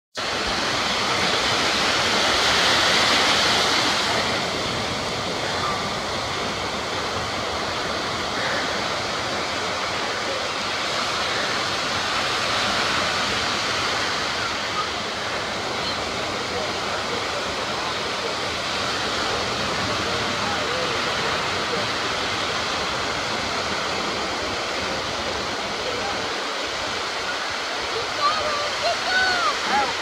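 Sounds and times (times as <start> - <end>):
ocean waves breaking on beach: 0.2 - 30.0.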